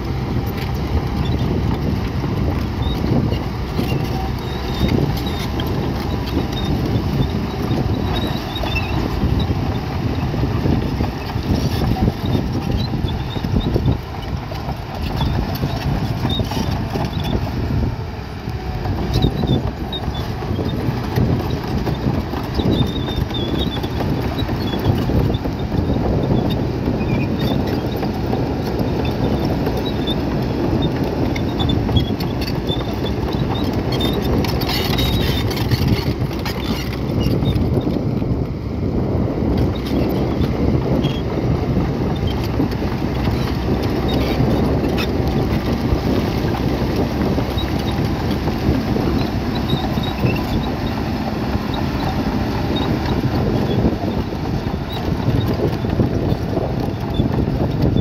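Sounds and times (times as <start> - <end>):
bulldozer engine rumble: 0.0 - 58.0.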